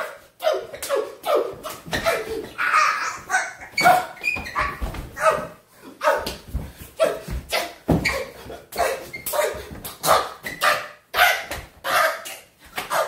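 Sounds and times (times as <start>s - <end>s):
man grunting and yelping: 0.1s - 6.4s, 7.0s - 13.0s.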